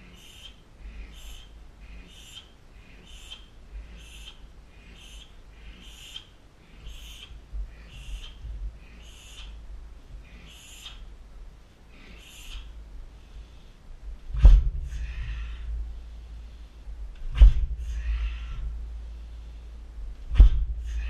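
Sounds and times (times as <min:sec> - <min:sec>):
man breathing hard: 0:00.0 - 0:21.0.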